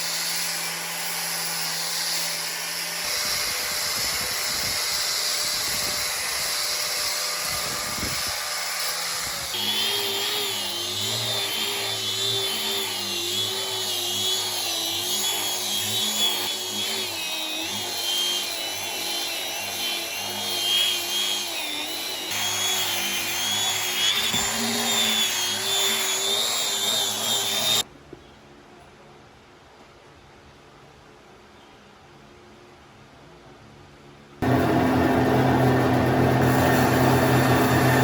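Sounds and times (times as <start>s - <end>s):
power tool motor on wood: 0.0s - 27.8s, 34.4s - 38.0s.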